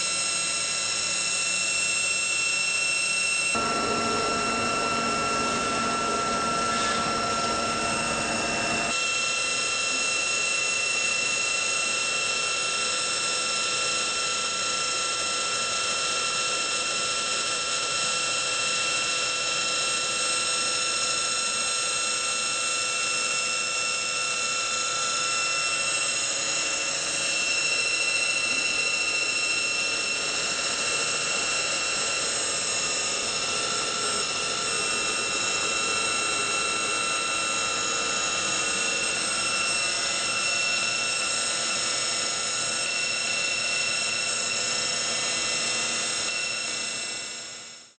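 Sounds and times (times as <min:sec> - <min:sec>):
drilling machine running: 0:00.0 - 0:48.0.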